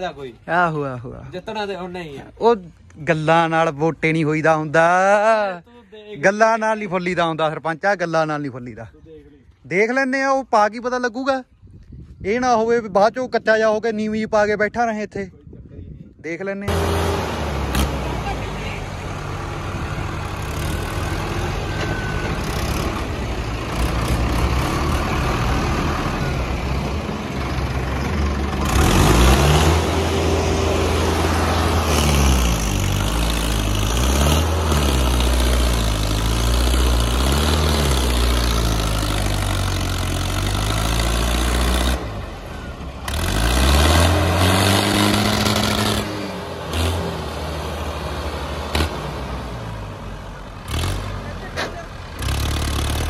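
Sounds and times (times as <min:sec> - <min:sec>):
diesel tractor engines revving: 0:00.0 - 0:11.4, 0:16.3 - 0:53.0.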